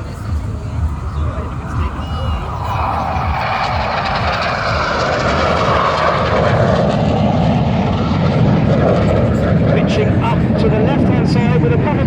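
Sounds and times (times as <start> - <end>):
jet aircraft flying over: 0.0 - 12.0.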